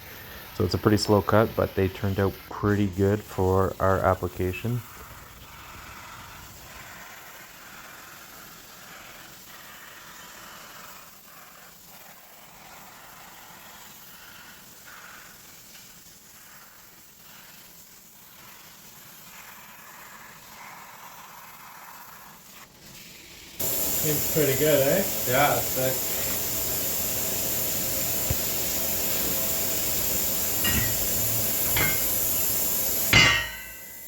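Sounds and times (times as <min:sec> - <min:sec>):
plasma cutter hissing: 0:00.0 - 0:34.0.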